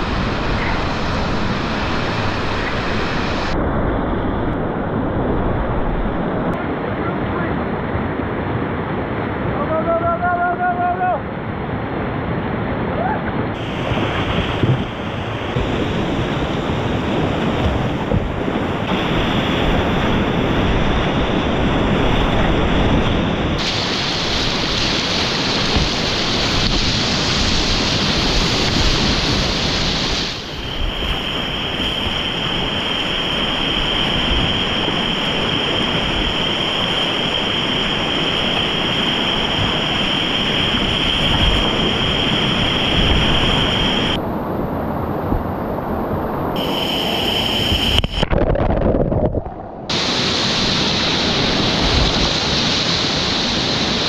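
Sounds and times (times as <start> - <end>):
whitewater rushing in river rapids: 0.0 - 3.6, 6.6 - 48.2, 49.8 - 54.0.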